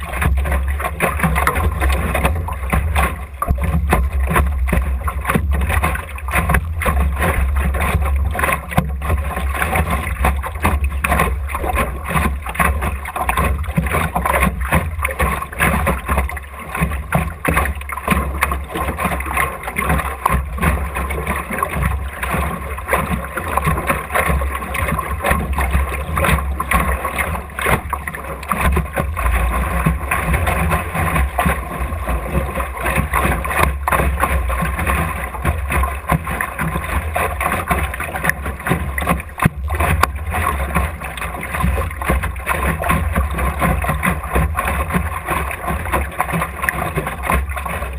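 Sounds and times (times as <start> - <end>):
water splashing against hull: 0.0 - 47.9.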